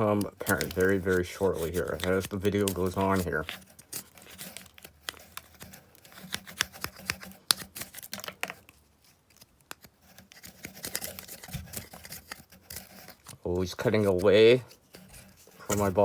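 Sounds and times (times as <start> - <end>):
knife scraping plant stalk: 0.0 - 16.0.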